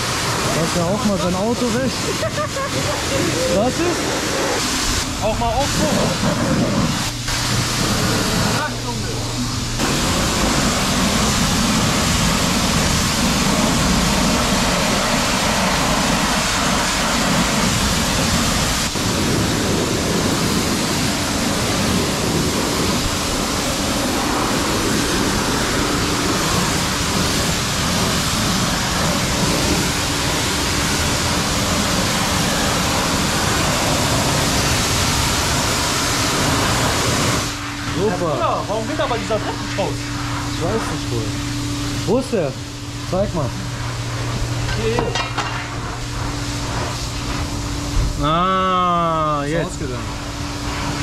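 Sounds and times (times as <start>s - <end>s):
pressure washer spraying water: 0.0s - 51.0s
steady low hum: 0.0s - 51.0s.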